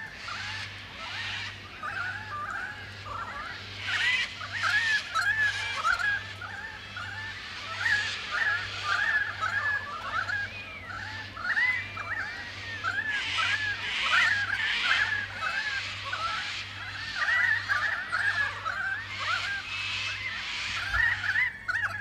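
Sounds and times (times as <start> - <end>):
flock of birds calling: 0.0 - 22.0.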